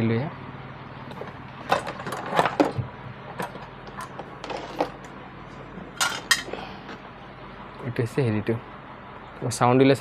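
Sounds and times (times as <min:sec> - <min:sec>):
low mains hum: 0:00.0 - 0:10.0.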